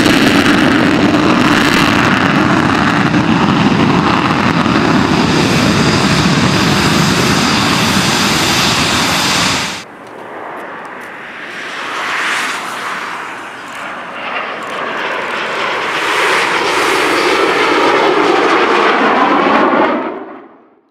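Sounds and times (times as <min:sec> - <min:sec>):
jet approaching: 0:00.0 - 0:20.8
jet engines running loud: 0:00.0 - 0:20.8.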